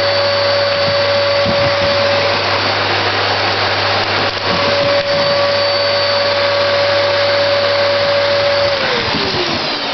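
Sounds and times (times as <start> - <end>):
vacuum cleaner running: 0.0 - 9.9.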